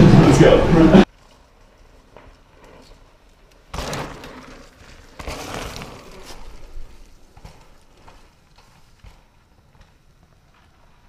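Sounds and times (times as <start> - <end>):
bike tyres rushing on dirt: 0.0 - 11.0.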